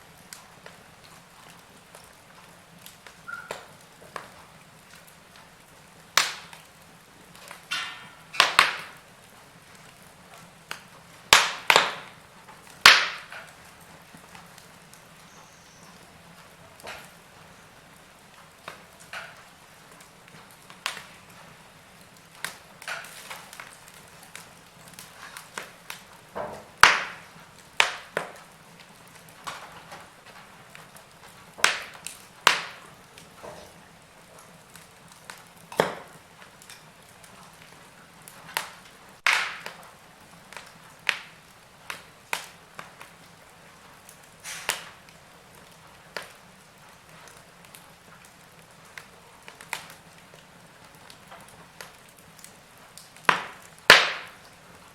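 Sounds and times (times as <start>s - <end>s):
faint steady hiss: 0.0s - 54.9s
wood fire crackling: 0.0s - 54.9s.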